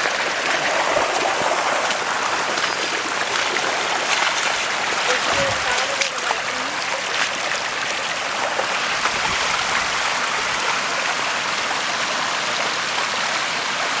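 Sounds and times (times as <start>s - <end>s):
rain falling: 0.0s - 14.0s
water rushing and trickling: 0.0s - 14.0s.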